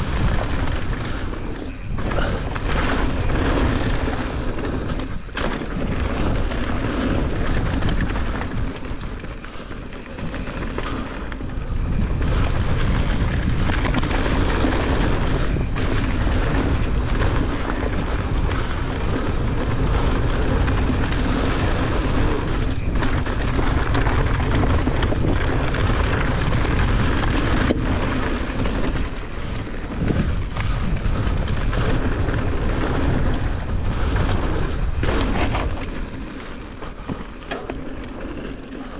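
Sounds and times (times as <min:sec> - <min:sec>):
bike tyres rolling over gravel: 0:00.0 - 0:38.9
wind buffeting microphone: 0:00.0 - 0:38.9.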